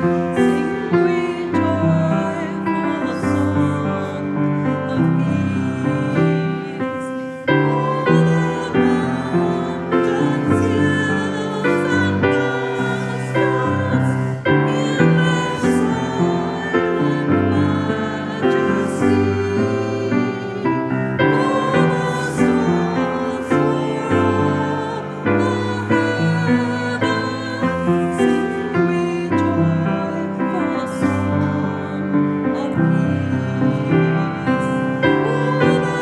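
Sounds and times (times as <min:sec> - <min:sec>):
hymn music led by piano: 0:00.0 - 0:36.0.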